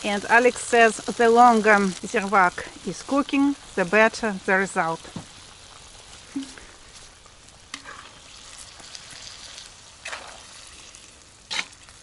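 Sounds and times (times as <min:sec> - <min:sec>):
broth simmering with sizzling hiss: 0:00.0 - 0:12.0.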